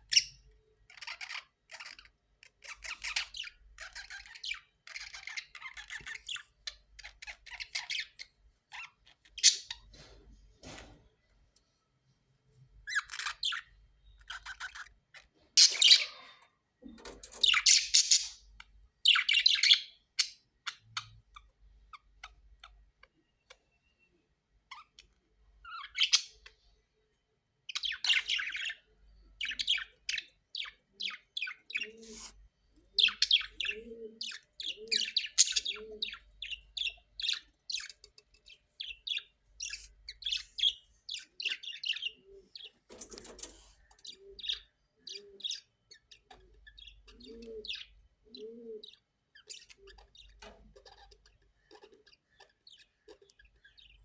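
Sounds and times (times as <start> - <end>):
parrots chirping and squawking: 0.1 - 9.9, 12.9 - 22.8, 29.4 - 54.0.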